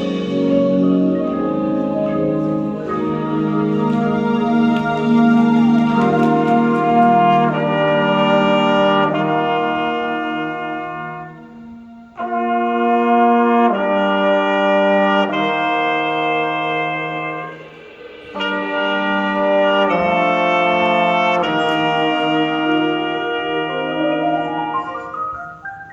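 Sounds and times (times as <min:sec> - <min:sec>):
brass band playing sustained chords: 0:00.0 - 0:25.8.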